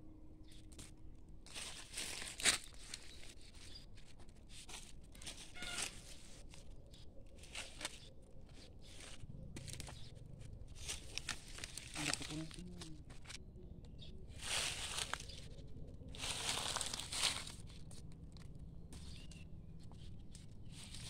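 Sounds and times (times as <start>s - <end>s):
leaves and stems rustling: 0.5s - 13.4s, 14.3s - 19.4s, 20.0s - 21.0s.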